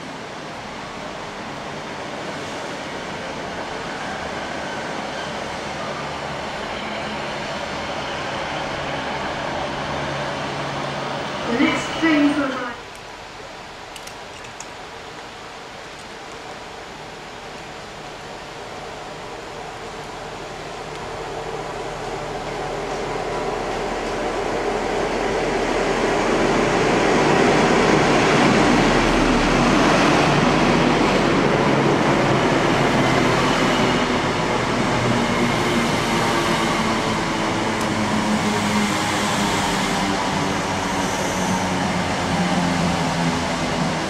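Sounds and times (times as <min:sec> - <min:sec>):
diesel train engine: 0:00.0 - 0:44.0
train rail noise: 0:00.0 - 0:44.0.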